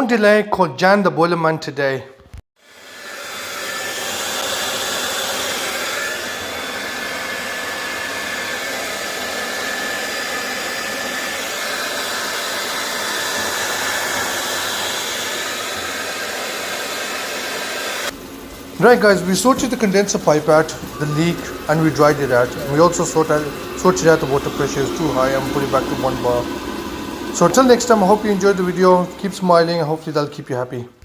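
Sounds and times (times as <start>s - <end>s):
hair dryer blowing: 2.6s - 30.8s.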